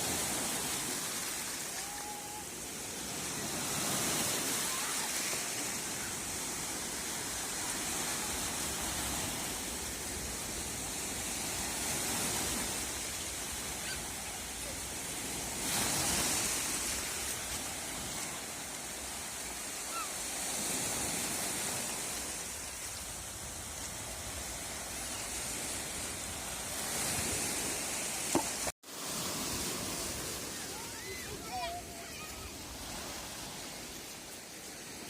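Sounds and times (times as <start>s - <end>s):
surf washing ashore: 0.0s - 35.0s.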